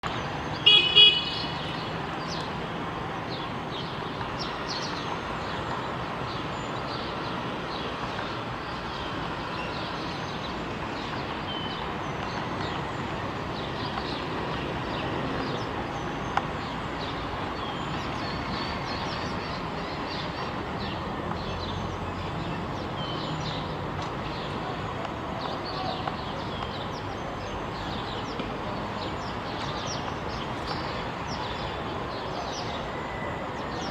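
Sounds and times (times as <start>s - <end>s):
steady background noise: 0.0s - 33.9s.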